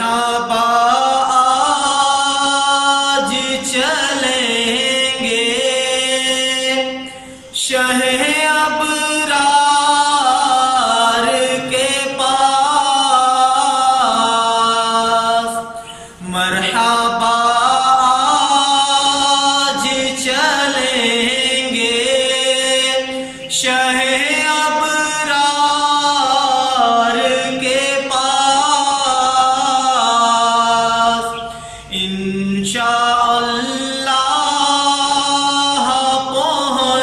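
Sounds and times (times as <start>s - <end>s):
man singing unaccompanied: 0.0s - 37.0s.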